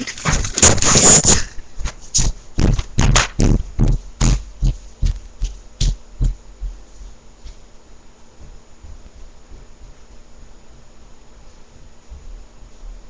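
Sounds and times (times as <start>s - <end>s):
quick footsteps on a floor: 0.0s - 13.0s.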